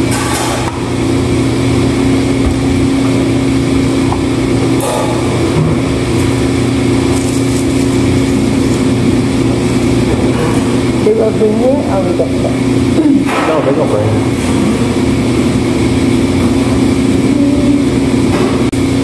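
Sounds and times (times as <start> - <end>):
ventilation system hum: 0.0 - 19.0.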